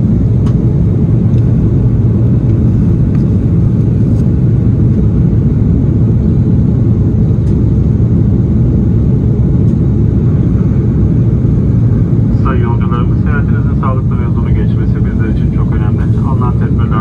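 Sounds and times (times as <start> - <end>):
airliner engines rumbling in cabin: 0.0 - 17.0.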